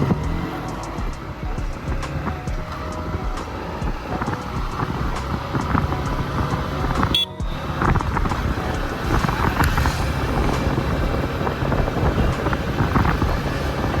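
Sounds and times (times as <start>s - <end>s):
motor vehicle running: 0.0s - 14.0s
wind on microphone: 0.0s - 14.0s.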